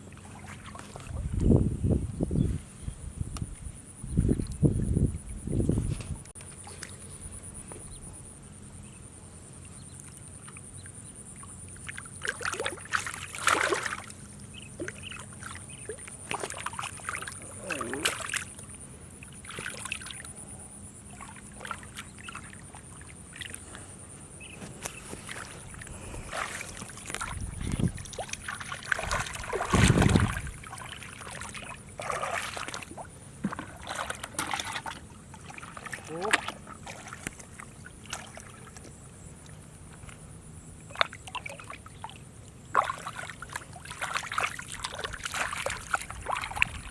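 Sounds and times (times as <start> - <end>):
shallow water sloshing and splashing: 0.0 - 2.9, 10.1 - 46.9.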